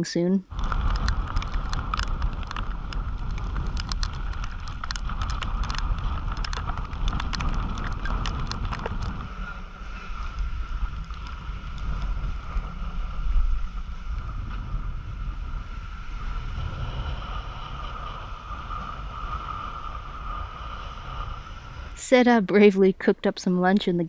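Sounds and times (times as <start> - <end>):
sea rushing along hull: 0.5 - 22.0
wind buffeting microphone: 0.5 - 24.0.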